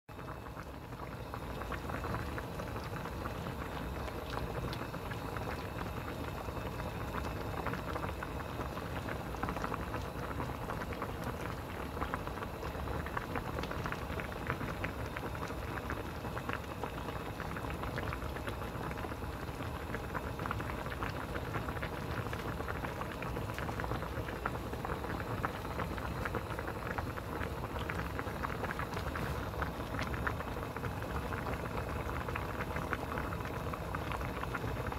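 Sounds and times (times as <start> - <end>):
broth boiling and bubbling: 0.0 - 34.9.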